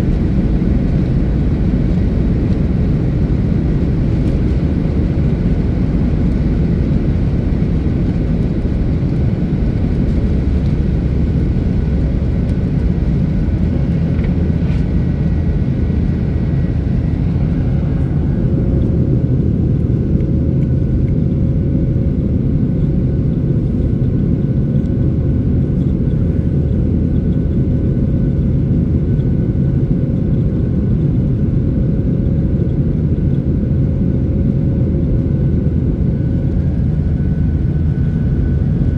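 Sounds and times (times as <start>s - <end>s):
steady hum: 0.0s - 28.3s, 32.6s - 38.9s
airliner engine and airflow rumble: 0.0s - 38.9s
faint steady whine: 0.0s - 38.9s.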